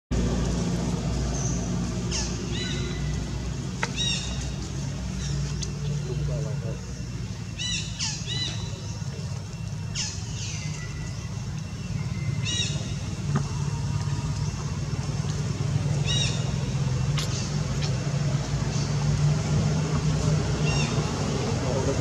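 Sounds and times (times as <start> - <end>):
low engine-like hum: 0.1 - 22.0.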